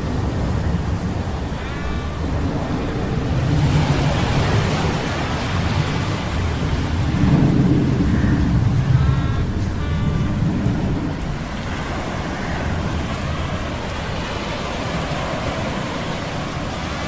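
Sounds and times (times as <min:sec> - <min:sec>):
rain hiss: 0:00.0 - 0:17.0
rolling thunder rumbles: 0:00.0 - 0:17.0.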